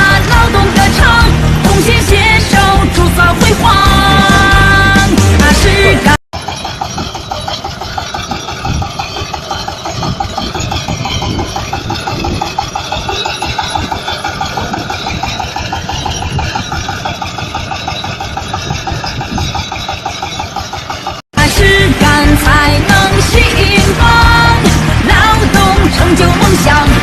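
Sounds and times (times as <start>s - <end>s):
harvester engine pulsing: 0.0s - 27.0s.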